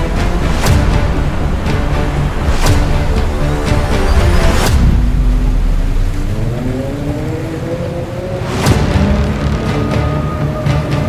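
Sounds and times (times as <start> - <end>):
music with deep bass: 0.0 - 6.6, 8.4 - 11.0.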